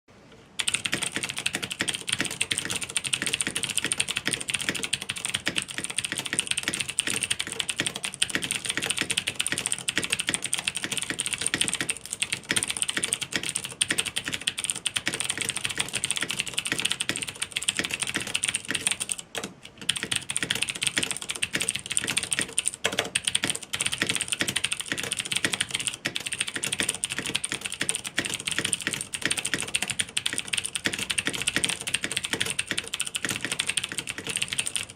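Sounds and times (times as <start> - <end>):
fast typing on mechanical keyboard: 0.6 - 34.9.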